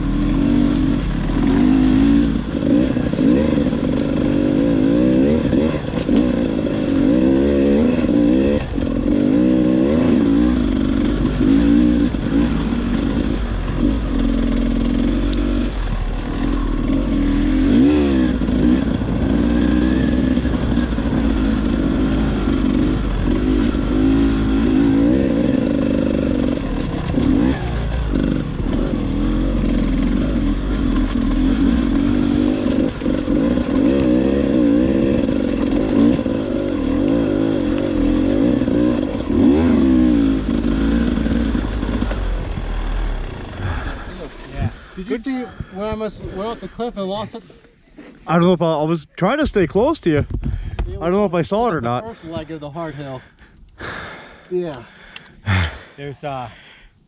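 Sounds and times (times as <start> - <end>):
dirt bike engine revving: 0.0 - 46.8, 55.4 - 56.0.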